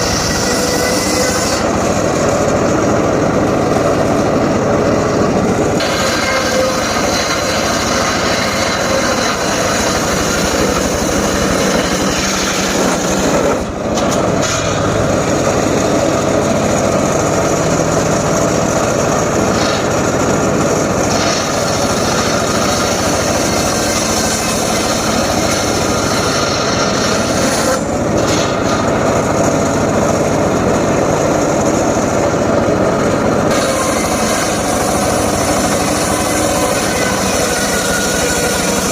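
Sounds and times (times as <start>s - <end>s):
power saw cutting wood: 0.0s - 38.9s.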